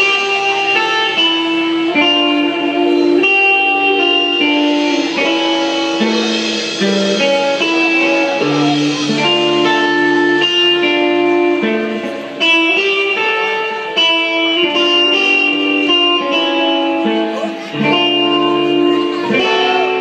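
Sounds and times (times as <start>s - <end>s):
electric guitar notes and chords: 0.0s - 20.0s
live band music: 0.0s - 20.0s.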